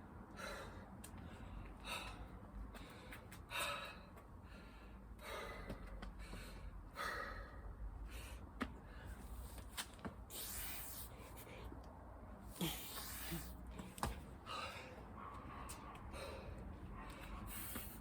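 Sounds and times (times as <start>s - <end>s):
man breathing hard: 0.2s - 9.4s, 10.4s - 18.0s.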